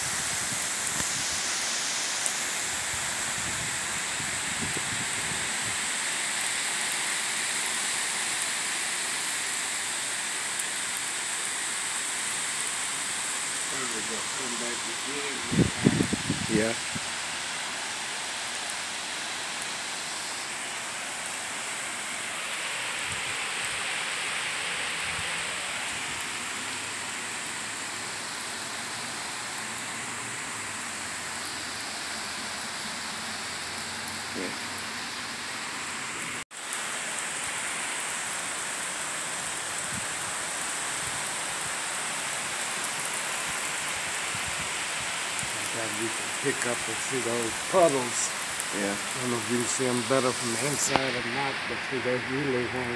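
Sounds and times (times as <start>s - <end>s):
light rain on pavement: 0.0s - 52.9s.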